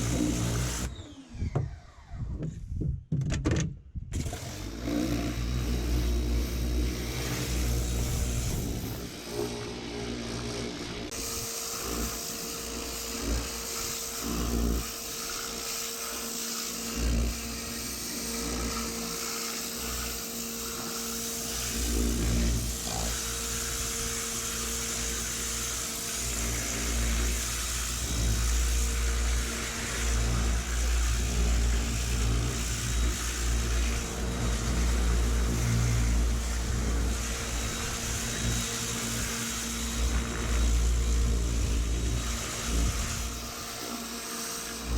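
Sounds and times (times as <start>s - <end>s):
pressure washer motor: 0.0s - 2.2s, 4.1s - 44.9s.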